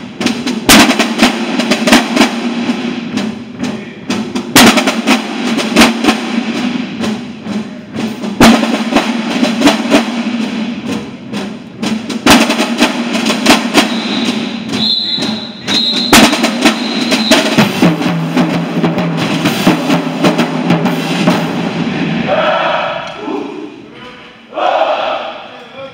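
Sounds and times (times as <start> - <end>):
marching bass drums: 0.0 - 22.4
snare drums: 0.0 - 23.8.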